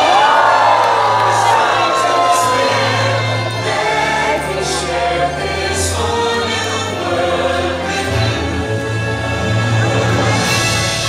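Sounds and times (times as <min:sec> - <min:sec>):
choir singing: 0:00.0 - 0:10.8.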